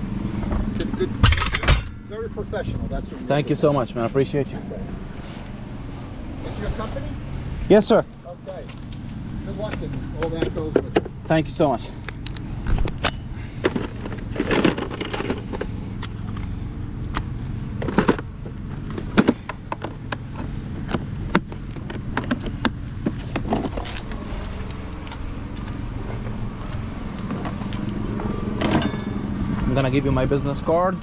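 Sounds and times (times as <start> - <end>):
vehicle engine idling: 0.0 - 31.0.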